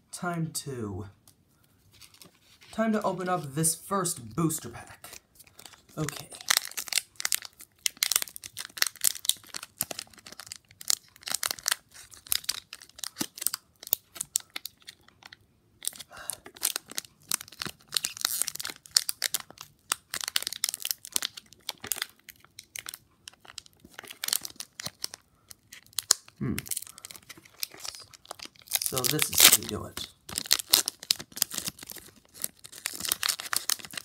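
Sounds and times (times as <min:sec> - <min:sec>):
foil wrapper tearing and crinkling: 0:05.5 - 0:34.0.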